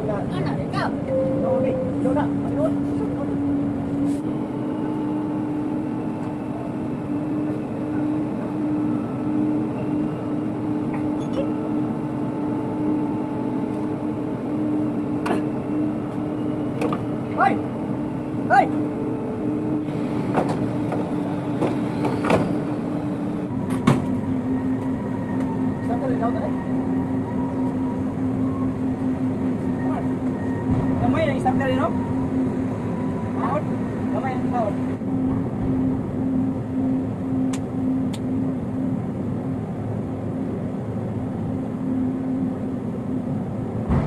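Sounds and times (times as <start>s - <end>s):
engine running hum: 0.0s - 44.0s.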